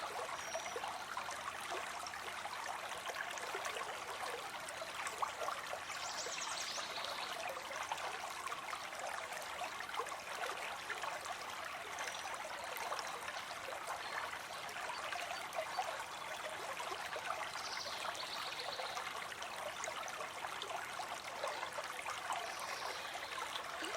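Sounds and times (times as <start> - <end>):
water stream trickling: 0.0 - 23.9.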